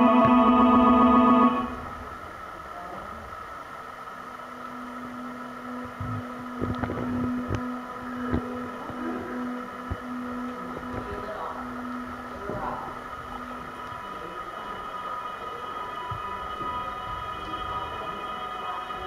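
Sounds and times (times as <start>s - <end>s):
room hiss: 0.0s - 19.0s
steady low hum: 0.0s - 19.0s.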